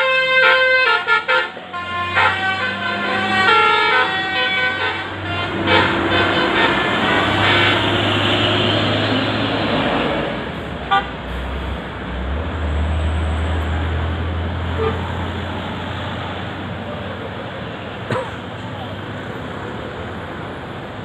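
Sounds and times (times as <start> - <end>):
heavy vehicle engine humming: 0.0 - 21.0.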